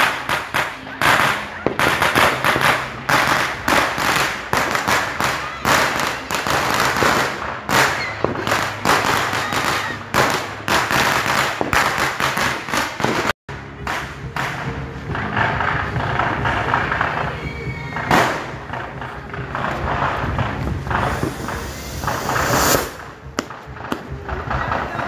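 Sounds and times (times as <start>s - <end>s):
distant fireworks bangs: 0.0s - 17.3s, 18.0s - 25.0s
firecrackers and fireworks bangs: 0.0s - 25.0s.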